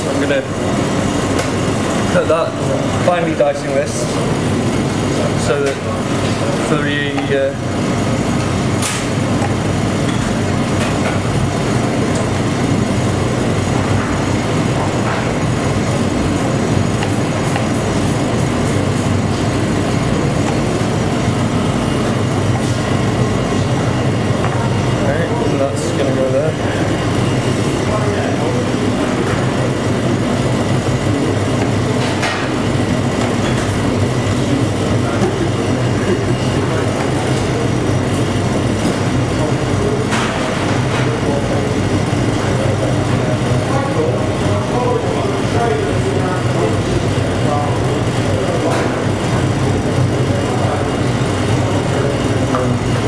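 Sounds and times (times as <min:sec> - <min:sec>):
loud rumbling background noise: 0:00.0 - 0:53.0.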